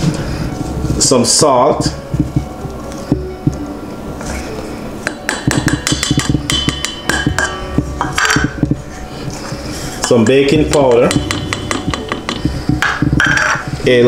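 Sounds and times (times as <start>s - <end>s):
background music with bass: 0.0s - 14.0s.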